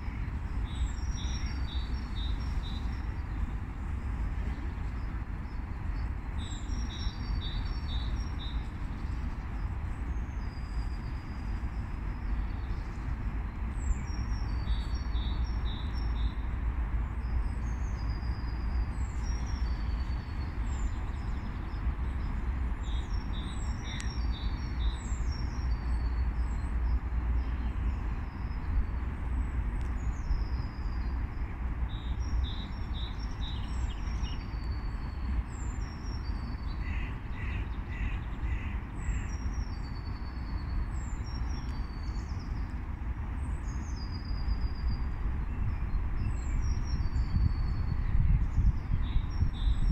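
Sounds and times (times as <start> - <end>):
songbirds singing: 0.0 - 49.9
steady low rumble: 0.0 - 49.9.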